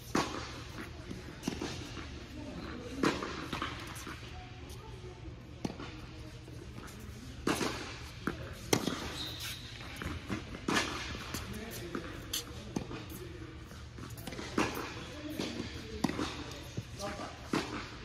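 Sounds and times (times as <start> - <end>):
tennis balls bouncing on hard court: 0.0 - 2.2, 2.8 - 4.8, 5.5 - 18.0
tennis balls struck by racquets: 0.0 - 4.2, 5.5 - 9.2, 9.8 - 18.0.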